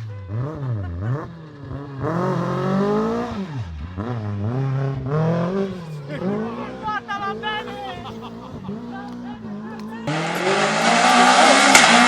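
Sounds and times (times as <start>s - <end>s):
rally car engine revving hard: 0.0s - 7.4s, 8.0s - 12.0s.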